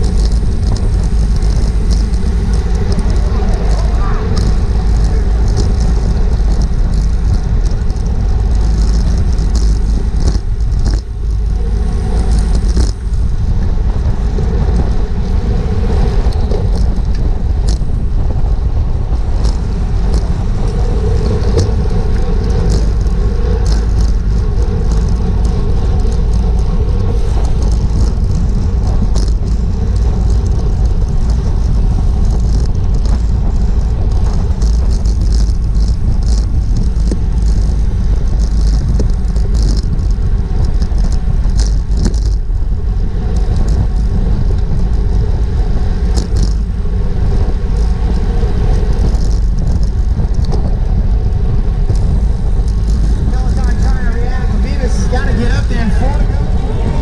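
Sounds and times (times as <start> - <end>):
bicycle clicks and rattles: 0.0 - 57.0
wind buffeting microphone: 0.0 - 57.0.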